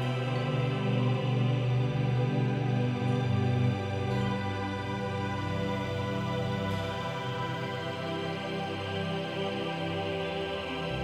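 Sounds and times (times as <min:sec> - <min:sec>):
music with long held tones: 0:00.0 - 0:11.0.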